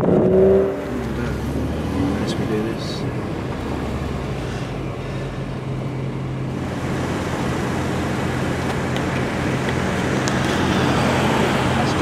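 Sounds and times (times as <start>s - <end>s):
car engines idling in traffic: 0.0s - 12.0s.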